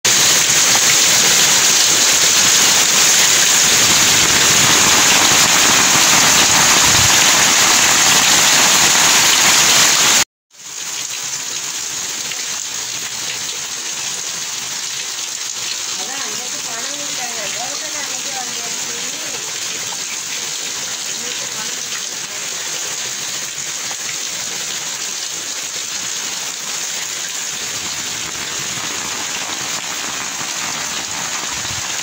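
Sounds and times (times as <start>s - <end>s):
heavy rain pouring: 0.1s - 32.0s
rain splashing on concrete and tubs: 0.1s - 32.0s.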